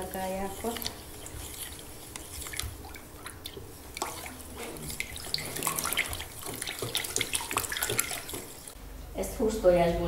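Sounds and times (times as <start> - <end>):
spoon stirring liquid in bowl: 0.0 - 8.8.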